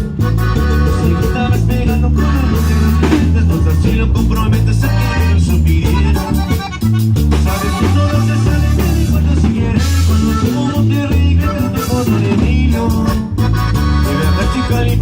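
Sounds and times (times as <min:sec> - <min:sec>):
drum kit: 0:00.0 - 0:15.0
guitar: 0:00.0 - 0:15.0
live band playing cumbia: 0:00.0 - 0:15.0
pulsing bass line: 0:00.0 - 0:15.0.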